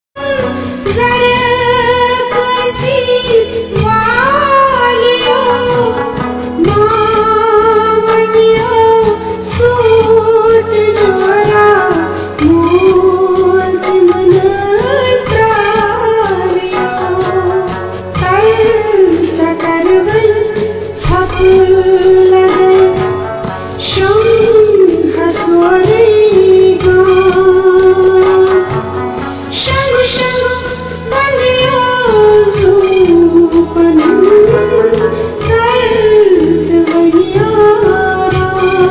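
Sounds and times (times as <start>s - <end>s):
instrumental backing music: 0.2s - 38.9s
woman singing: 0.2s - 38.9s.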